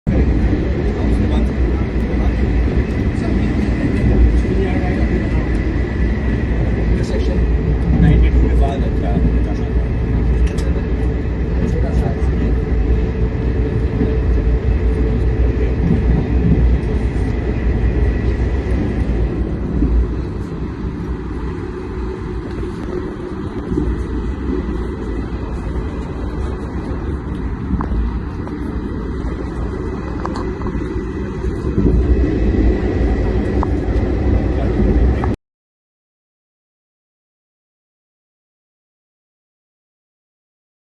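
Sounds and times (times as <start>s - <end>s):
passenger train rumbling on track: 0.1s - 35.4s.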